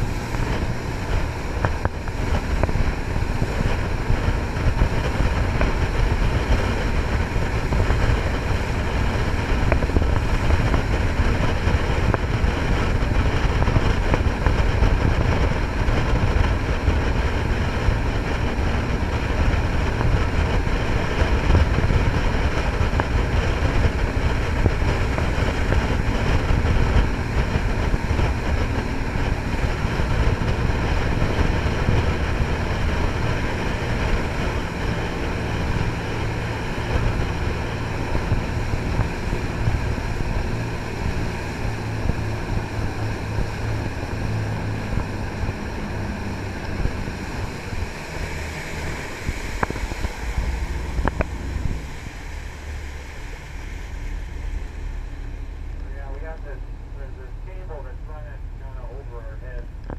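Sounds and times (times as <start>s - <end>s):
rushing water: 0.0s - 58.8s
boat engines running: 0.0s - 59.9s
wind noise: 0.0s - 59.9s.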